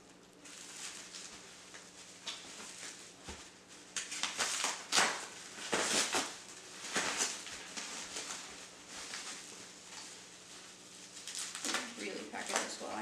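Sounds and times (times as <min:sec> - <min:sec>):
bubble wrap and plastic rustling: 0:00.0 - 0:13.0.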